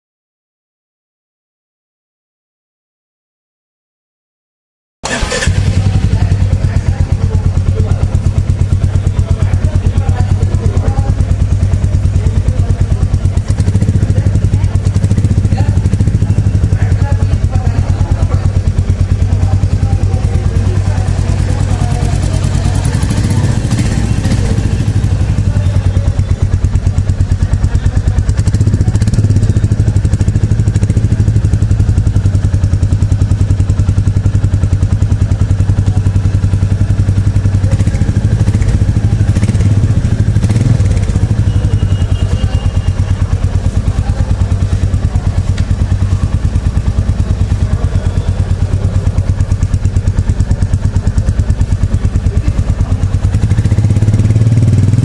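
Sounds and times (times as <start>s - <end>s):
motorcycle exhaust idling: 5.0s - 55.0s.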